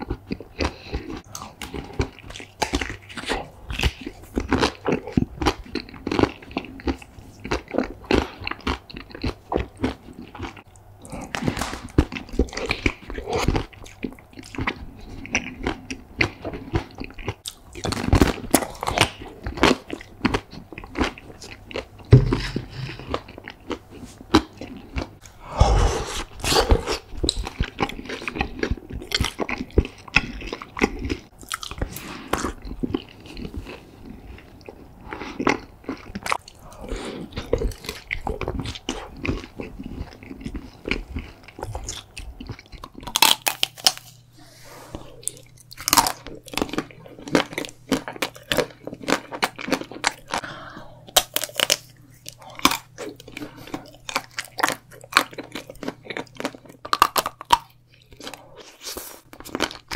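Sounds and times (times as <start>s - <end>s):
chewing: 0.0s - 44.2s, 44.9s - 59.9s.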